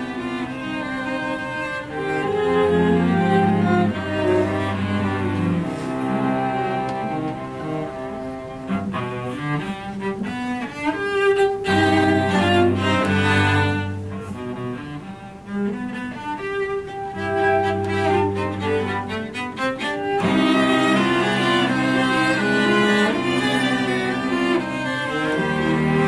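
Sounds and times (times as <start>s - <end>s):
cellos playing sustained chords: 0.0s - 26.0s.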